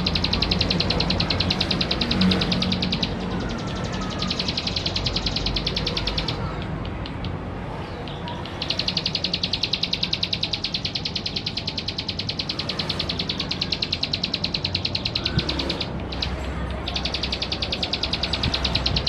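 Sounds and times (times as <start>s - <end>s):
bird singing buzzy trill: 0.0s - 19.0s.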